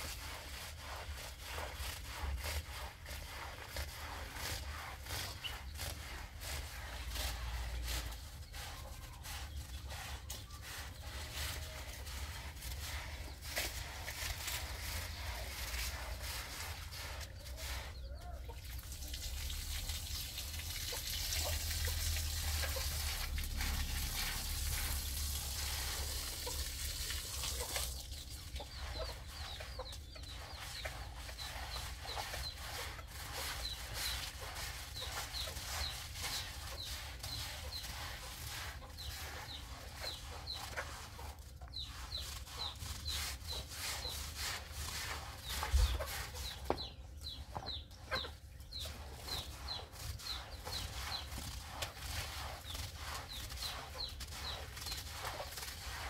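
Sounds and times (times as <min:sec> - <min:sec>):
chickens clucking: 0:07.2 - 0:56.0.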